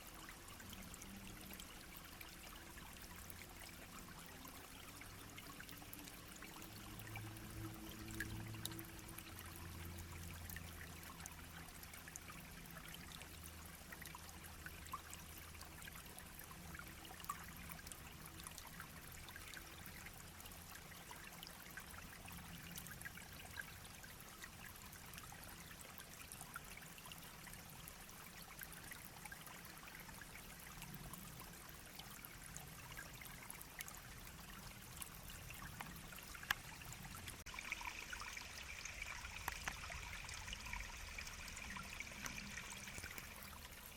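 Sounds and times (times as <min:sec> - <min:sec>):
brook trickling: 0:00.0 - 0:43.9
tiny splashes and drips: 0:00.0 - 0:43.9.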